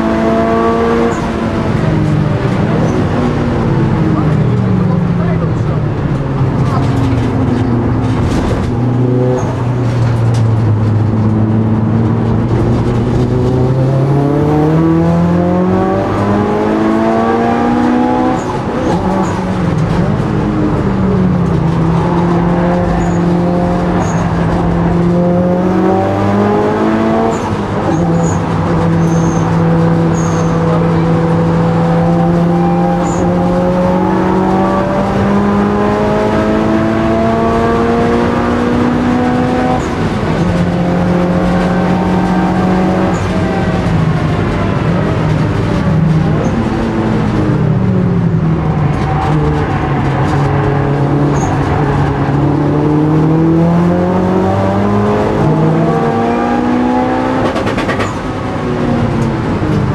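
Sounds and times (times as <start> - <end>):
turbocharged car engine revving: 0.0 - 59.9.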